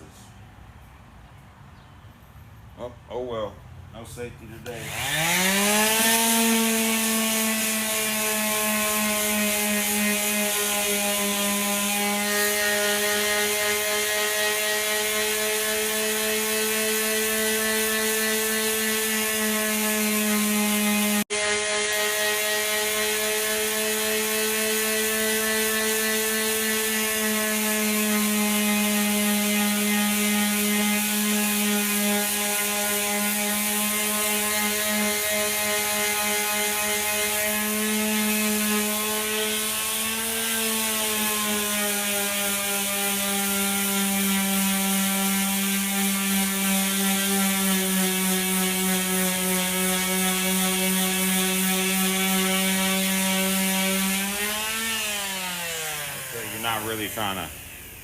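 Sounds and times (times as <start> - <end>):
power sander running: 4.6 - 58.0.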